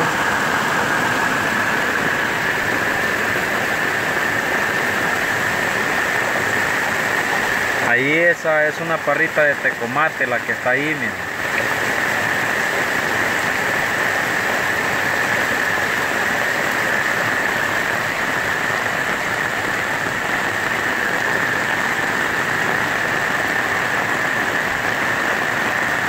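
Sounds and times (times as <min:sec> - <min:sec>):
heavy rain: 0:00.0 - 0:26.0
runoff water running: 0:00.0 - 0:26.0.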